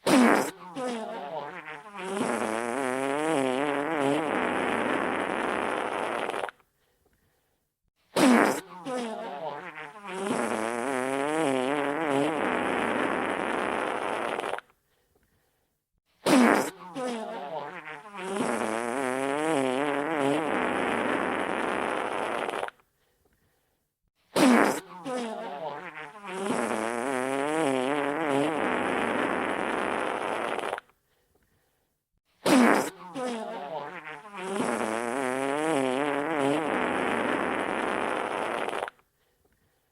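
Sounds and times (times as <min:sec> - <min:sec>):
wet fart sound effect: 0:00.0 - 0:06.6, 0:08.1 - 0:14.7, 0:16.2 - 0:22.8, 0:24.3 - 0:30.9, 0:32.4 - 0:39.0.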